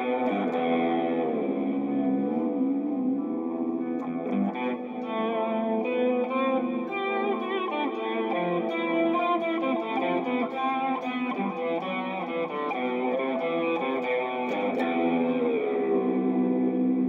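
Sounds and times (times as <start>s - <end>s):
electric guitar notes: 0.0s - 17.0s.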